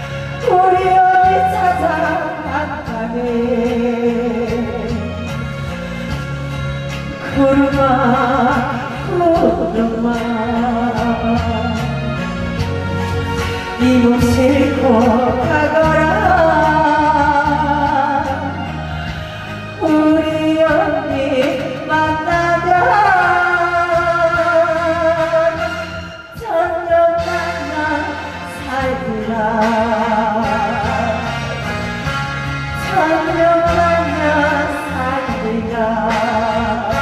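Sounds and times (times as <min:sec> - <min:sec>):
instrumental accompaniment: 0:00.0 - 0:37.0
woman singing with vibrato: 0:00.0 - 0:37.0.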